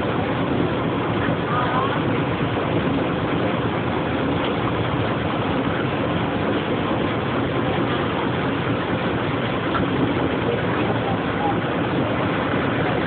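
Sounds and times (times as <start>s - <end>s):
ferry engine drone: 0.0s - 13.0s.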